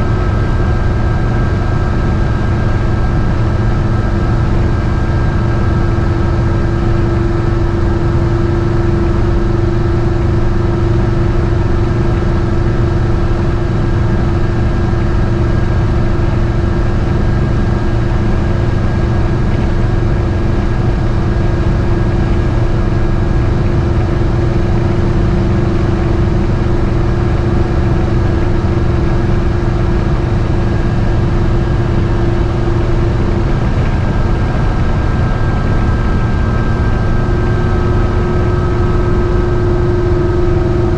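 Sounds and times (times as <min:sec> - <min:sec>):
engine and road drone: 0:00.0 - 0:40.9
steady hum: 0:00.0 - 0:40.9.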